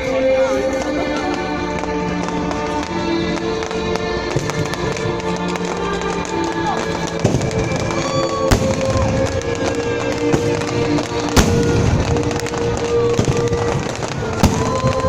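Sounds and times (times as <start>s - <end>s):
fireworks bangs: 0.0s - 15.0s
music: 0.0s - 15.0s.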